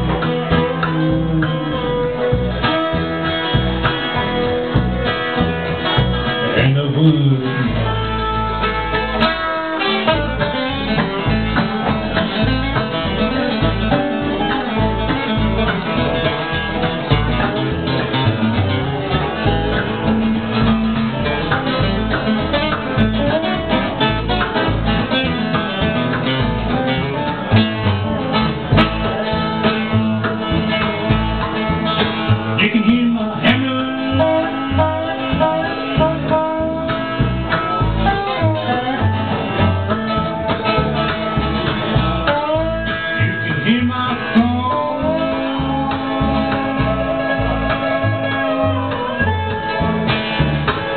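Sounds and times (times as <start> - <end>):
bluegrass band playing: 0.0 - 50.9.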